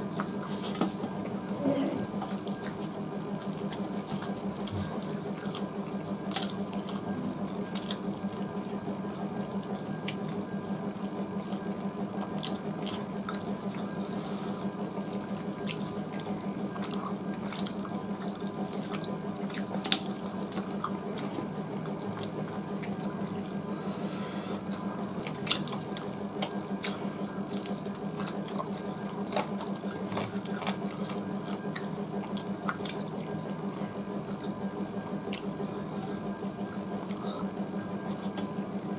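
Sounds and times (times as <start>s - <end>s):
chewing: 0.0s - 38.9s.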